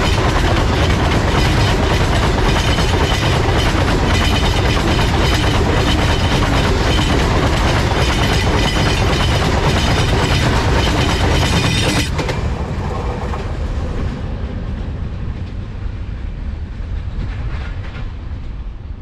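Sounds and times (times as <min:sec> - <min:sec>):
low train rumble: 0:00.0 - 0:19.0.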